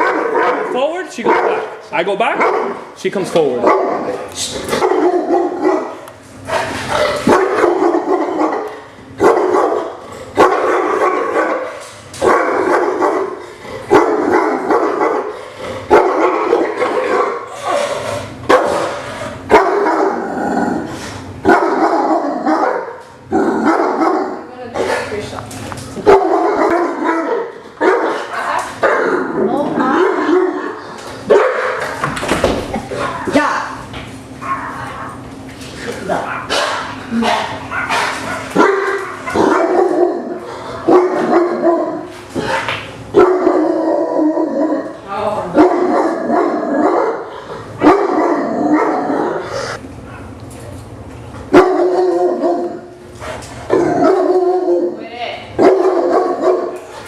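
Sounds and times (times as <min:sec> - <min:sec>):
dog barking aggressively: 0:00.0 - 0:02.9, 0:03.5 - 0:20.4, 0:21.4 - 0:25.1, 0:26.0 - 0:32.0, 0:36.3 - 0:44.8, 0:45.5 - 0:49.4, 0:51.5 - 0:52.9, 0:53.6 - 0:54.8, 0:55.6 - 0:57.0.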